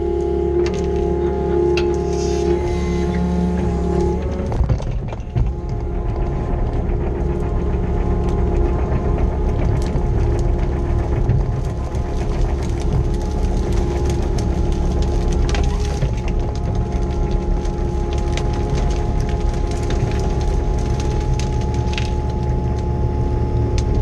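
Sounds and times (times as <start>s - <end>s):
excavator diesel engine running: 0.0s - 24.0s
branches cracking and snapping: 0.2s - 24.0s.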